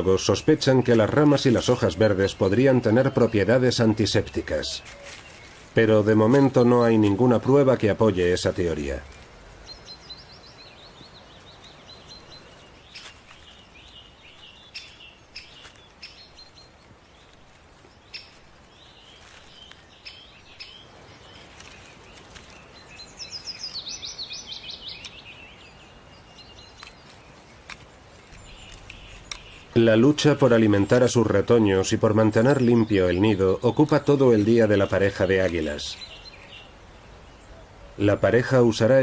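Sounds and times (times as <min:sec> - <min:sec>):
birds chirping and singing: 0:00.0 - 0:39.0.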